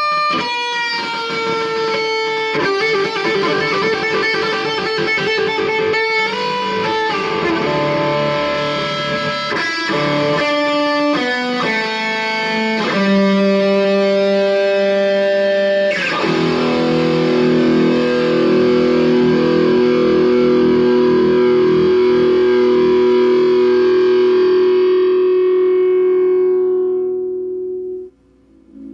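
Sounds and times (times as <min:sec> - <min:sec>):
distorted electric guitar: 0:00.0 - 0:28.9.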